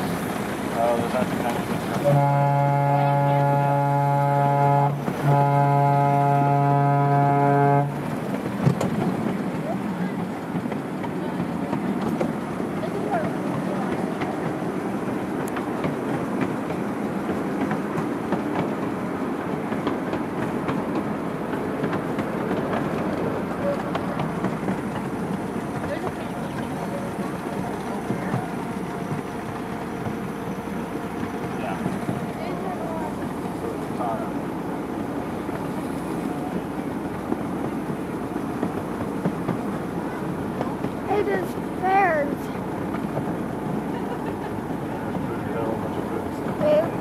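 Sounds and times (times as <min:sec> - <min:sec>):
miniature train rumbling on track: 0:00.0 - 0:47.0
wheels clicking on rails: 0:00.0 - 0:47.0.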